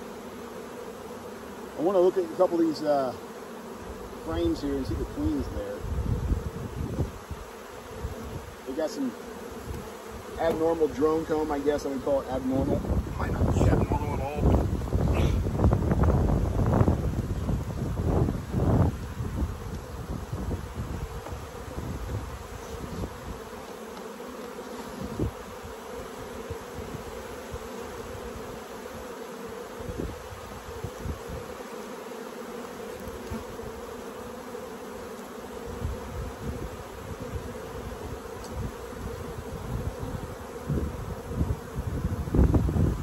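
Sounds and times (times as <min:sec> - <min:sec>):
honeybees buzzing: 0:00.0 - 0:43.0.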